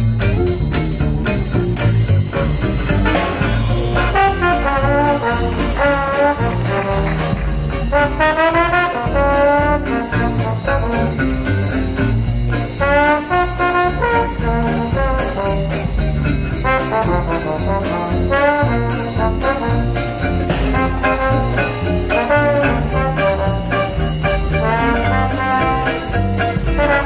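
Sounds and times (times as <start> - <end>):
jazz band rhythm section: 0.0 - 27.0
trombone melody with sliding notes: 0.1 - 27.0.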